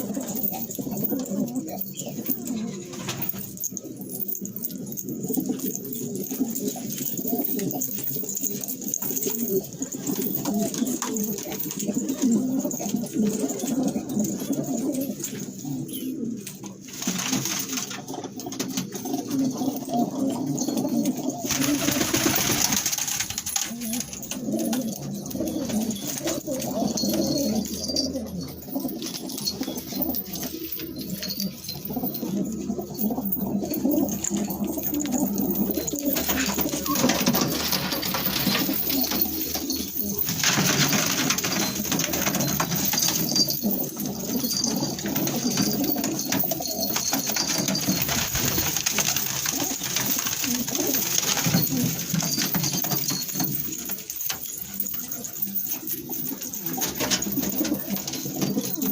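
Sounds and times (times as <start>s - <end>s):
pigeons cooing: 0.0s - 58.9s.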